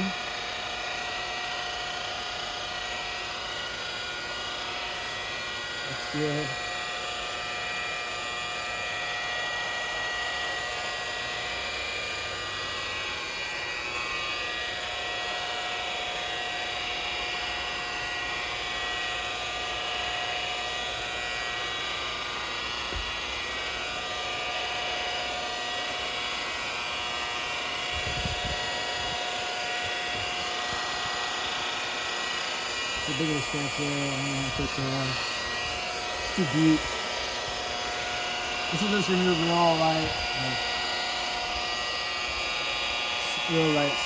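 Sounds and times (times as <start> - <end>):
rotary polisher motor whine: 0.0 - 44.0.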